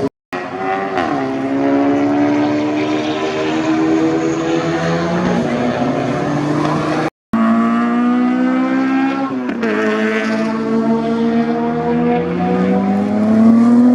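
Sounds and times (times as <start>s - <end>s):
race car engines revving: 0.0s - 13.9s.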